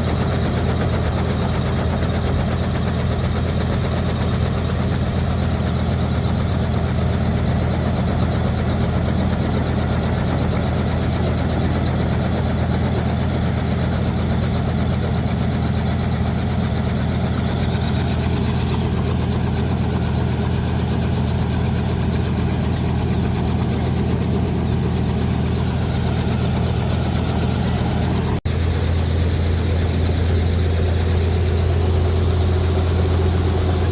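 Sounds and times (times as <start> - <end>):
helicopter engine and rotor drone: 0.0 - 33.9.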